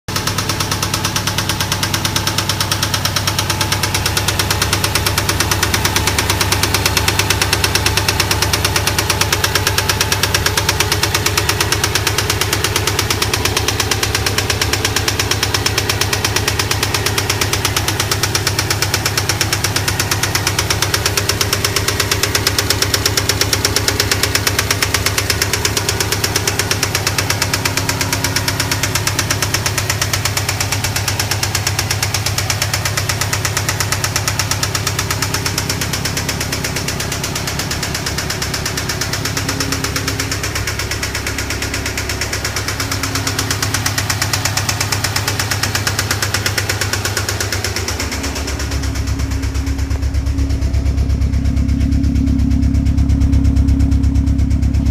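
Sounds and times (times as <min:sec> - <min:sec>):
car engine running: 0:00.0 - 0:54.9
engine rod knocking: 0:00.1 - 0:54.9.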